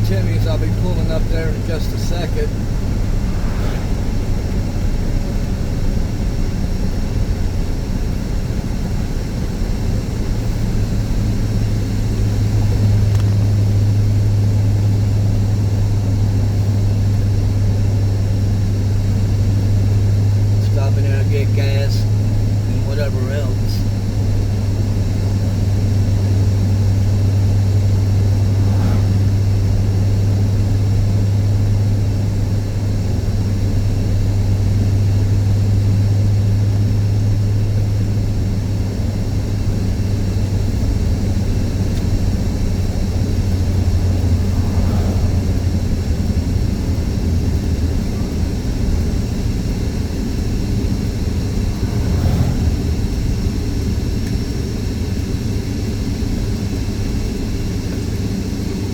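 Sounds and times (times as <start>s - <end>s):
car engine drone: 0.0s - 58.9s
road noise inside car: 0.0s - 58.9s.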